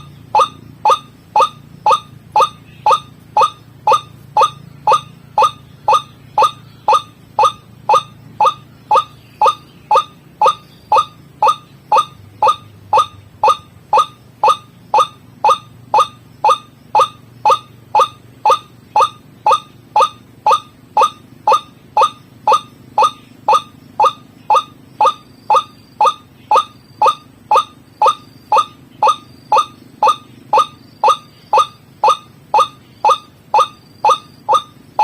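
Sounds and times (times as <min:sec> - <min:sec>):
waterhen calling: 0:00.0 - 0:35.0.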